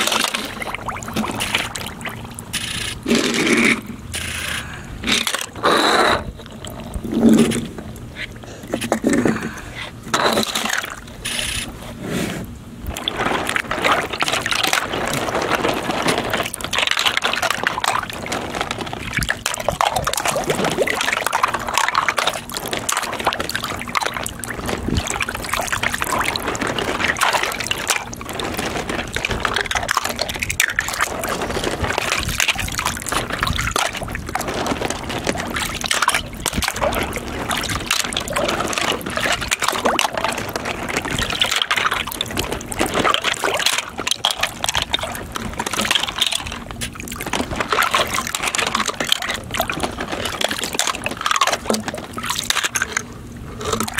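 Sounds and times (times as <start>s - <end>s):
water sloshing in plastic tub: 0.0s - 53.9s.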